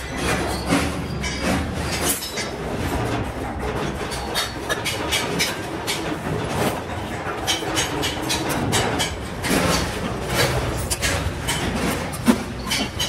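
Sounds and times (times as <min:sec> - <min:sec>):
metallic clicks and knocks: 0:00.0 - 0:13.0.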